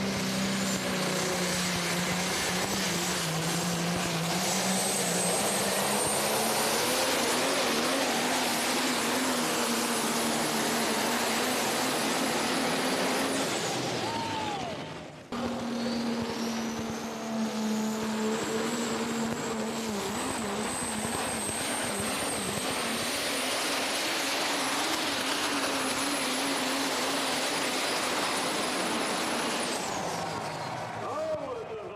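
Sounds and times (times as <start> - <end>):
tractor engine running flat out: 0.0 - 31.9.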